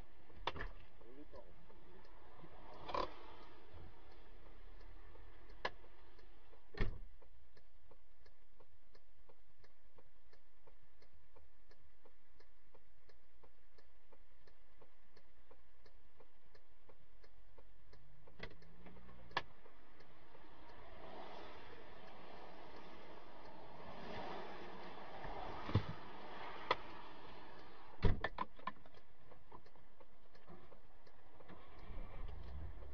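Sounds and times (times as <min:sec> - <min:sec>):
turn signal relay ticking: 0:00.0 - 0:32.9.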